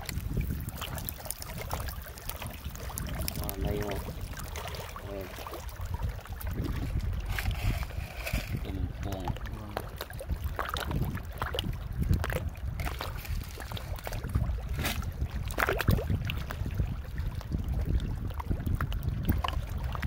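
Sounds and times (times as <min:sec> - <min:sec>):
seawater sloshing and splashing: 0:00.0 - 0:20.0.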